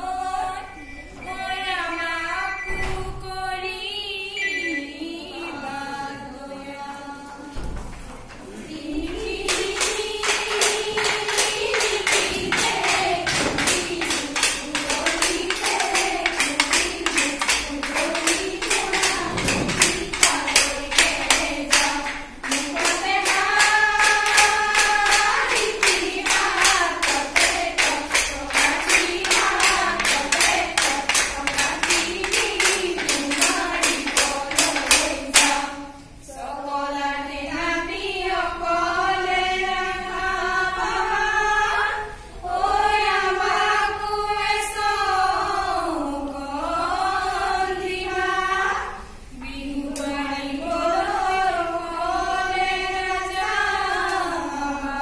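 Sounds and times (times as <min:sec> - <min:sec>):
women singing together: 0:00.0 - 0:55.0
rhythmic hand-clapping: 0:08.7 - 0:54.8.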